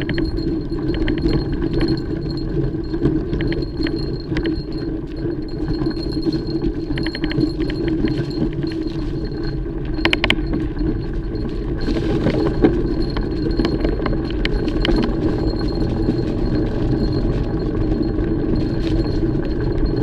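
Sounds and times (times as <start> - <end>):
bike chain rattling: 0.0 - 20.0
bike tyres rumbling on dirt: 0.0 - 20.0.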